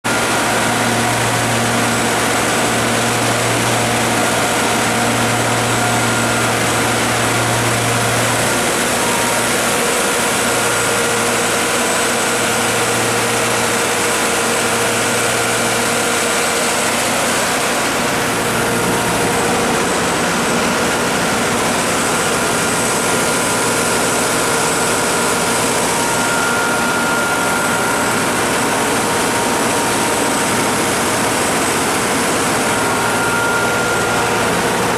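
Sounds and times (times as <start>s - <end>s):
diesel generator engine running: 0.1s - 34.9s.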